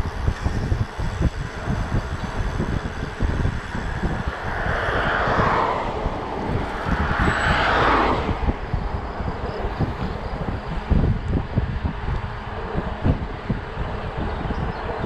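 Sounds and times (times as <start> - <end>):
cars passing: 0.0 - 15.0
wind buffeting microphone: 0.0 - 15.0.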